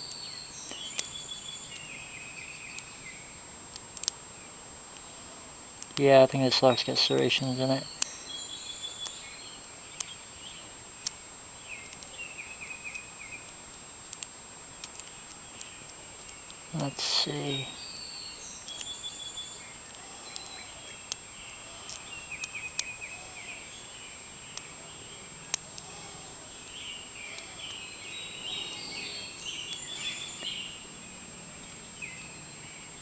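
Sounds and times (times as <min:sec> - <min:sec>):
small chirping: 0:00.0 - 0:31.0
steady high hiss: 0:00.0 - 0:33.0.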